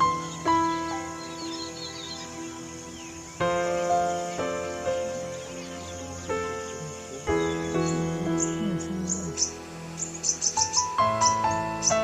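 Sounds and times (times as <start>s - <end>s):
piano-like keyboard chords: 0.0s - 12.0s.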